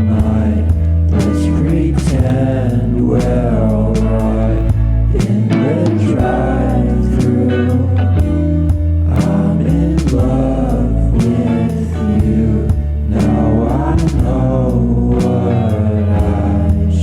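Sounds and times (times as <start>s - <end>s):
song with vocals bass and beat: 0.0s - 17.0s.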